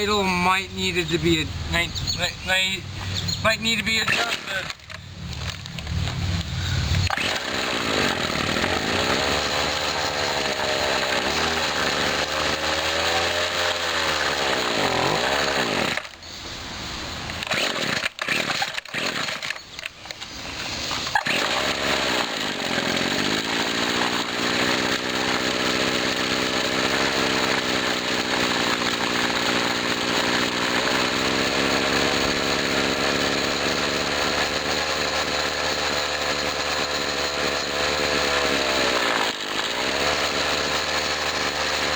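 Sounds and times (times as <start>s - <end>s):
string trimmer engine revving: 0.0s - 41.9s.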